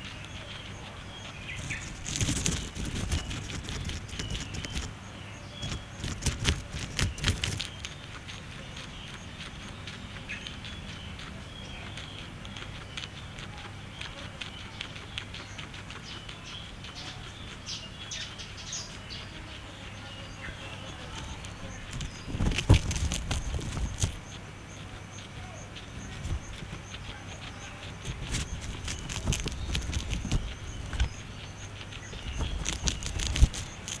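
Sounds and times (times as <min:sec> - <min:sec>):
birds chirping: 0:00.0 - 0:34.0
guinea pig chewing grass: 0:00.0 - 0:34.0.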